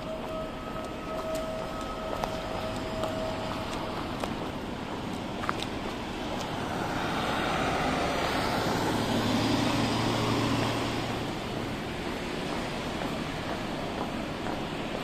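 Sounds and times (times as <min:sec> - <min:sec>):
passing vehicle engine drone: 0:00.0 - 0:14.8
road noise: 0:00.0 - 0:15.0.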